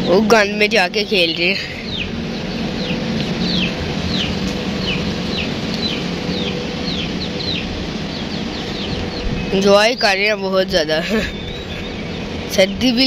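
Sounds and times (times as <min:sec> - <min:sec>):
chicks peeping: 0:00.9 - 0:12.9.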